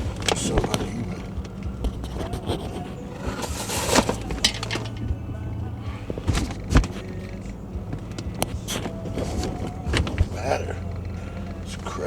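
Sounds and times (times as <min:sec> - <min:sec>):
car engine humming: 0:00.0 - 0:12.0
handling clicks and knocks: 0:00.0 - 0:12.0.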